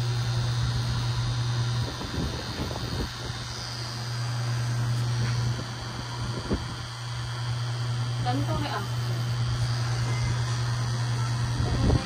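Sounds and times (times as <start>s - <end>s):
tattoo machine humming: 0.0s - 12.0s.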